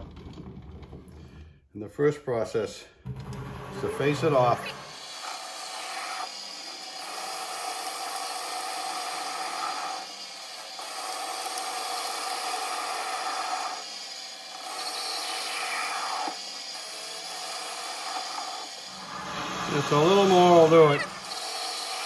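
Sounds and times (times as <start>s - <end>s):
lathe tool scraping steel: 3.1s - 22.0s
lathe whine: 3.1s - 22.0s.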